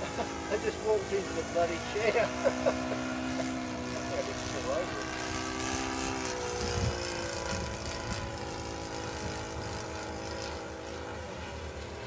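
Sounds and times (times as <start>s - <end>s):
model plane engine drone: 0.0s - 12.0s.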